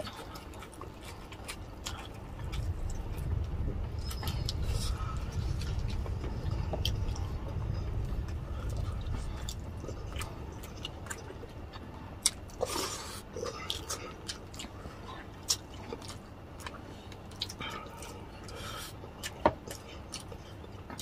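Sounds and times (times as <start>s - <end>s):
chewing and mouth smacks: 0.0s - 21.0s.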